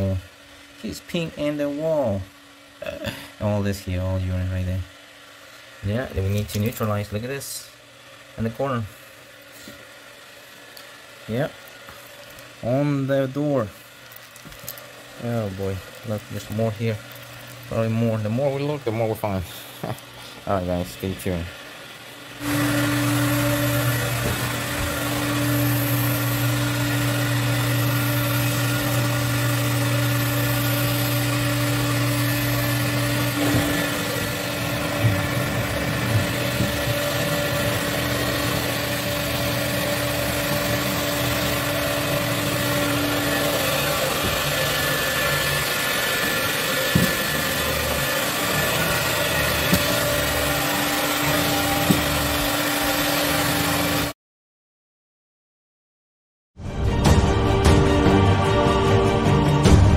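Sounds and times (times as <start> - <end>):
cleaning machine humming: 0.0 - 54.2.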